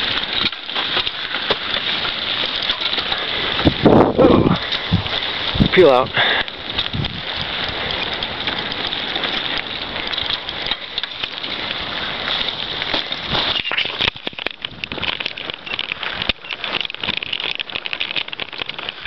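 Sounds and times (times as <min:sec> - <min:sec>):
bicycle tyres on rough ground: 0:00.0 - 0:19.0.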